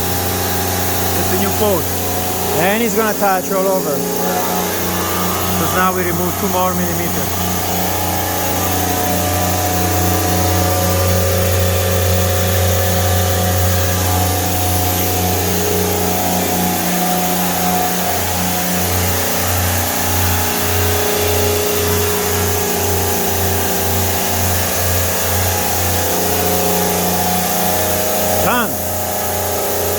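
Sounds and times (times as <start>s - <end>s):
machine motor hum: 0.0s - 29.9s
water hissing and cutting: 0.0s - 29.9s.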